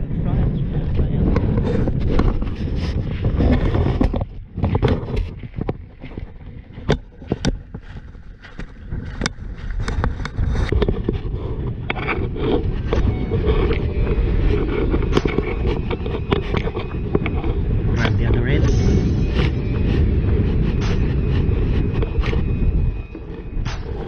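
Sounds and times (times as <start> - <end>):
wind buffeting microphone: 0.0 - 24.0
sharp clicks and knocks: 3.4 - 24.0.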